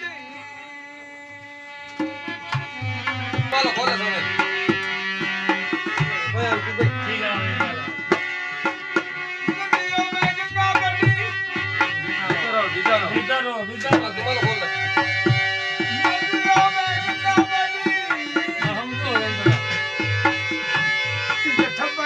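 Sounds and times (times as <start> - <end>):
sustained melodic instrument: 1.7 - 22.0
hand drum rhythm: 2.0 - 22.0.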